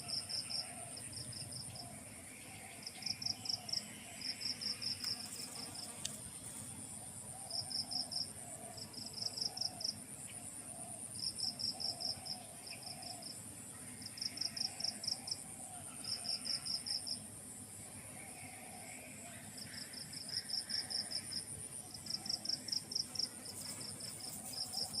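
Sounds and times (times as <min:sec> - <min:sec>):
high insect trill: 0:00.0 - 0:25.0.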